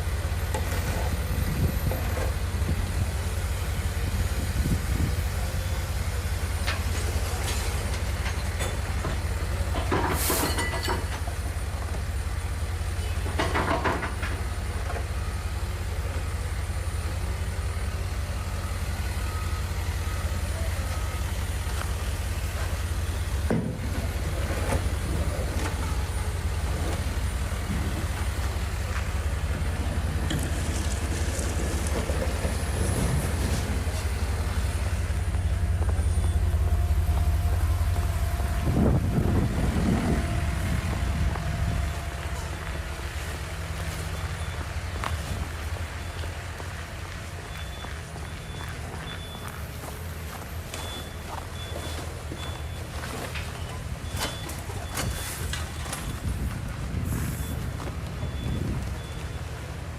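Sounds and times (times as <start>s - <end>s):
low rumble of street traffic: 0.0s - 59.9s.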